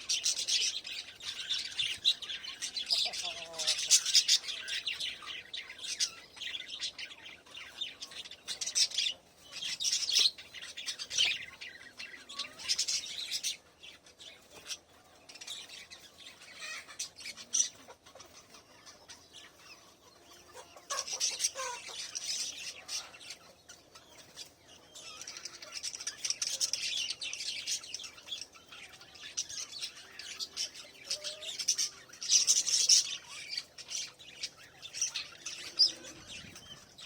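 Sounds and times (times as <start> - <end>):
parrots chirping and chattering: 0.0 - 37.0.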